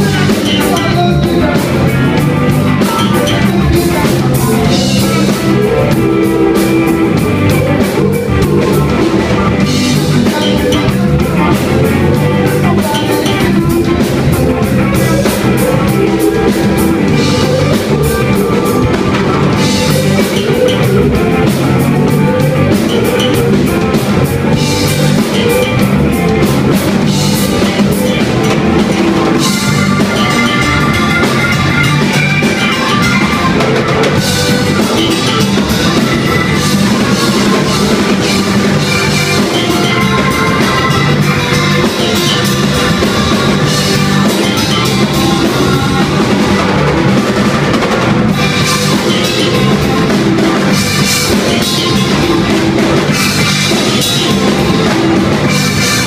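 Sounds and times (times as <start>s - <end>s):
drum kit: 0.0s - 56.0s
electric bass: 0.0s - 56.0s
electric guitar: 0.0s - 56.0s
keyboard: 0.0s - 56.0s.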